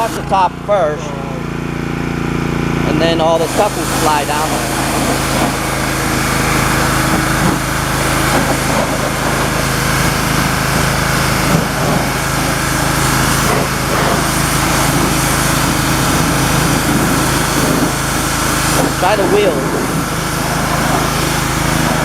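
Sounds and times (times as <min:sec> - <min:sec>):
pressure washer motor hum: 0:00.0 - 0:22.0
water jet hissing: 0:00.0 - 0:22.0.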